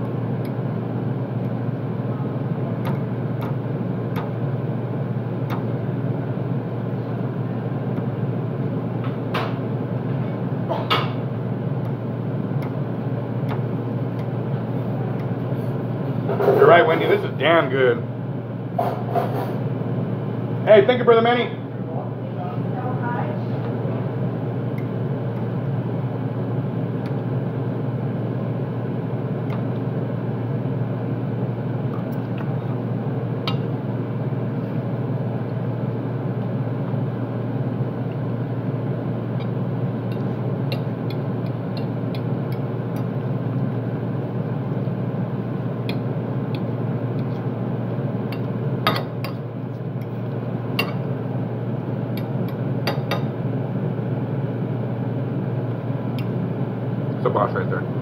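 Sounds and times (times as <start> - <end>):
kitchen equipment drone: 0.0 - 58.0.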